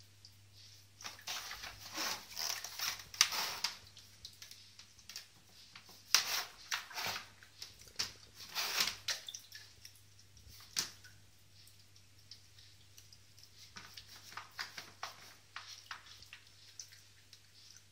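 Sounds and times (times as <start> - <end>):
cat lapping and splashing water: 0.0 - 17.9
low hum of fountain: 0.0 - 17.9.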